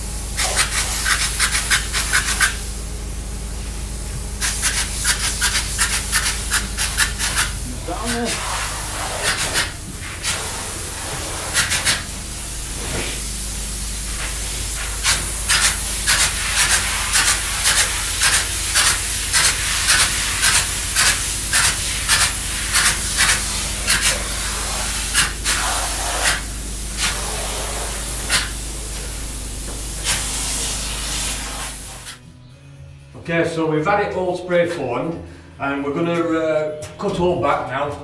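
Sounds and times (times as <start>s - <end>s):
spray foam gun hissing: 0.0s - 2.9s, 4.4s - 32.2s
steady low hum: 0.0s - 37.9s.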